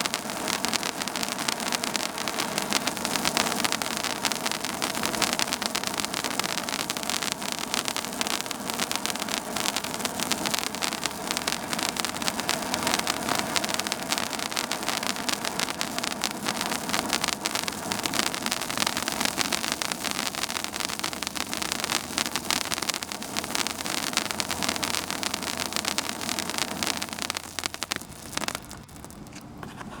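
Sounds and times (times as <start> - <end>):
firework fountain hissing and crackling: 0.0 - 29.9.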